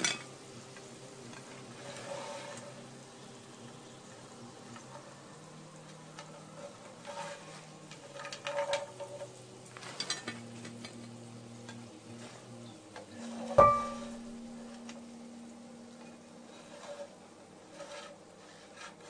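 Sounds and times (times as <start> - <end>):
faint low hum: 0.0 - 19.0
pot sizzling and crackling: 0.0 - 19.0.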